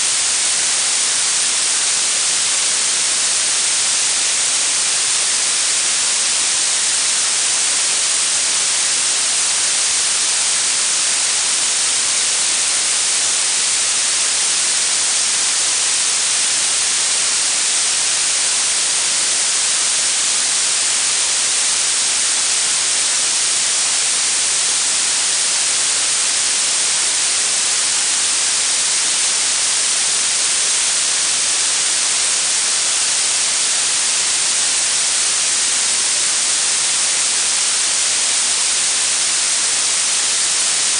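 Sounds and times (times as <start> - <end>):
blue noise hiss: 0.0 - 40.9.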